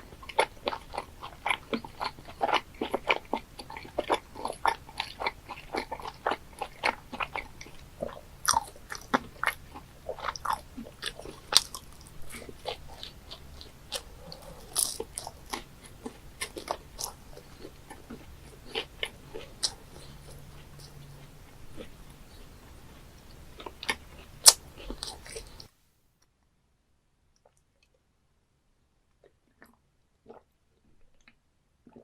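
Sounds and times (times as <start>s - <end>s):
person chewing with crunches: 0.0s - 25.7s, 29.2s - 32.0s.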